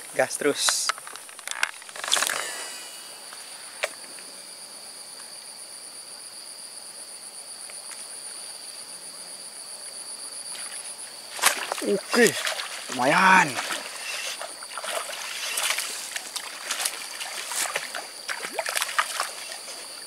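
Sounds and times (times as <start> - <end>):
insects calling: 0.0 - 20.0.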